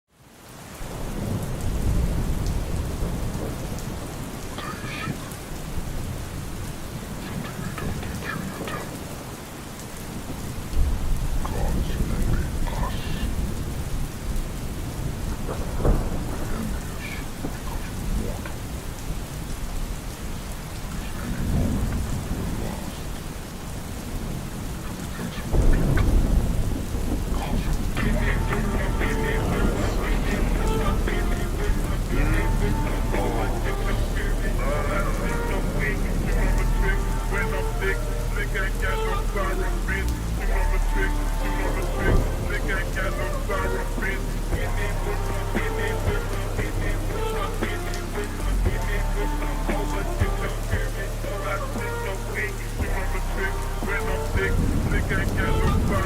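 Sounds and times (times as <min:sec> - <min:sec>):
rain: 0:00.0 - 0:56.0
low thunder rumble: 0:00.8 - 0:09.3, 0:10.0 - 0:56.0.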